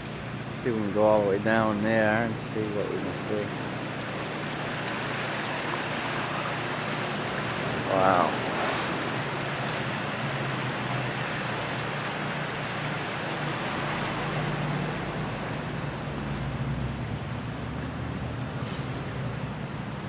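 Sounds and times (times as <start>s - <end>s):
low engine hum: 0.0s - 20.0s
vehicle driving slowly: 0.0s - 20.0s.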